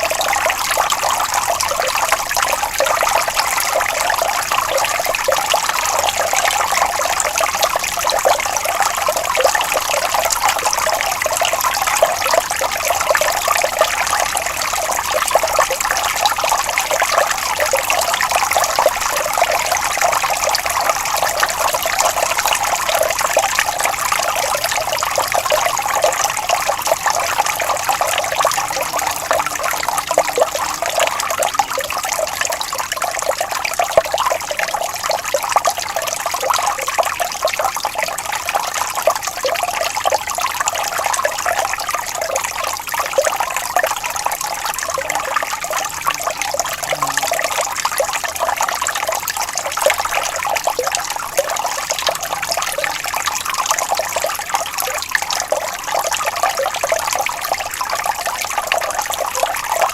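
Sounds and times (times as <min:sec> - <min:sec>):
water trickling over stones: 0:00.0 - 0:59.9.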